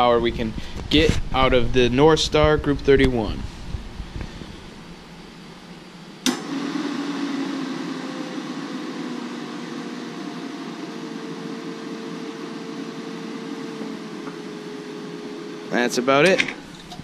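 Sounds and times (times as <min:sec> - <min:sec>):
battery tester whirring hum: 0:00.0 - 0:17.0.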